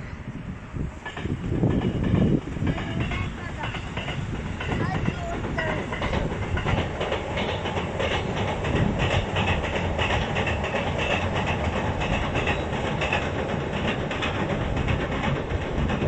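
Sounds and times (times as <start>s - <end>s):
train rumbling on steel bridge: 0.0s - 16.0s
rhythmic wheel clatter on rail joints: 0.2s - 16.0s.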